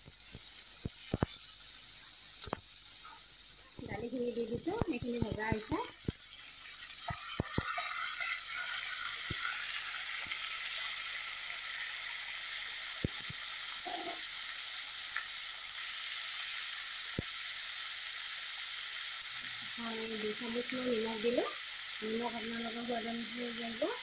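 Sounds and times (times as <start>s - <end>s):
lentils sizzling in hot oil: 0.0s - 24.0s.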